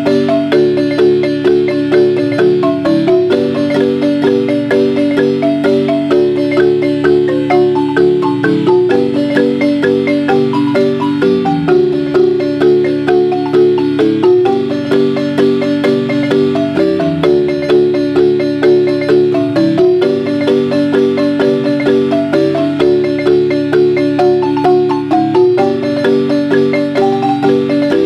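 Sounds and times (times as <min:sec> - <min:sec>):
marimba played with mallets: 0:00.0 - 0:28.0.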